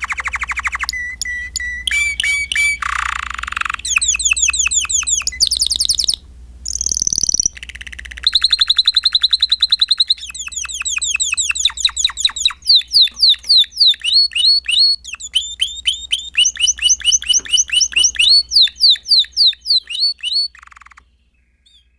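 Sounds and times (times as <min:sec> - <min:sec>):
canary singing: 0:00.0 - 0:21.9.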